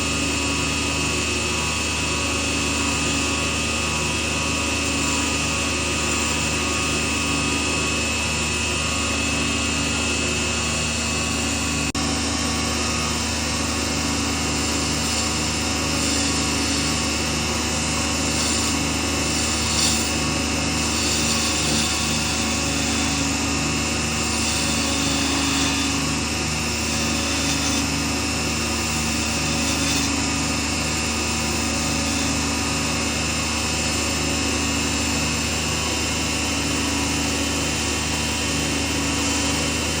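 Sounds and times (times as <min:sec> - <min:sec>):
small lathe running: 0:00.0 - 0:40.0
tool scraping spinning wood: 0:00.0 - 0:40.0.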